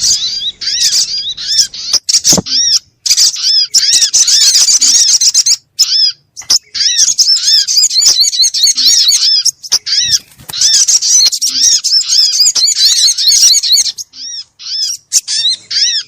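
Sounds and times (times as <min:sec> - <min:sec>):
bird call chirps: 0:00.0 - 0:16.0.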